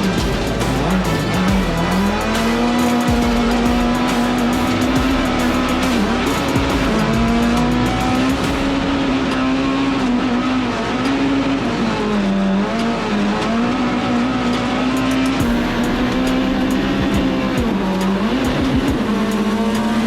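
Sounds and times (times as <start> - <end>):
race car engine running hard: 0.0 - 20.0.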